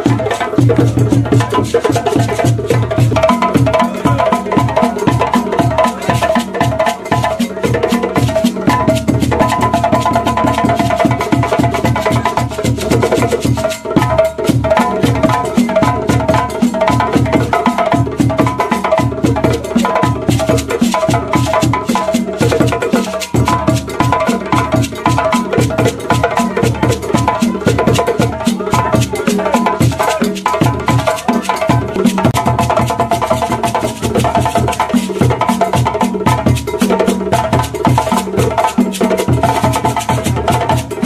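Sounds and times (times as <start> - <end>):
hand drumming: 0.0 - 41.0.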